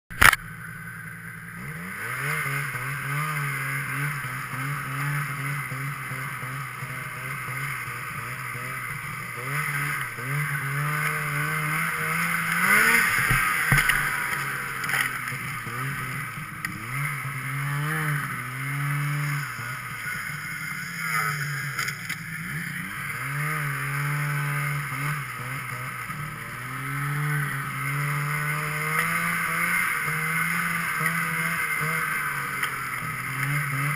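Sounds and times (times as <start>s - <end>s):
snowmobile engine revving: 0.2s - 33.9s.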